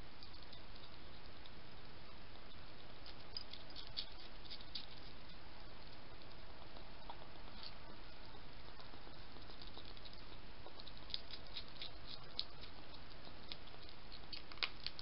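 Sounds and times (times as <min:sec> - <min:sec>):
hedgehog chewing: 0:00.2 - 0:15.0.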